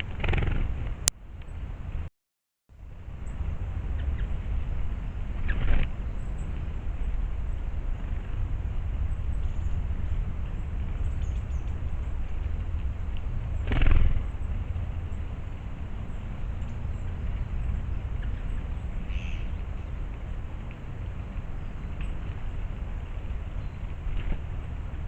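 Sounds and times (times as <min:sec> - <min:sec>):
steady low rumble: 0:02.7 - 0:25.0.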